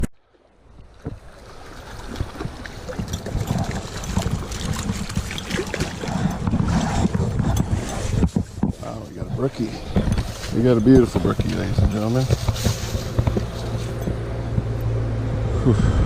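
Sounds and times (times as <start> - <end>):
water splashing and sloshing: 0.0 - 15.3
wind rumbling on microphone: 0.0 - 16.0.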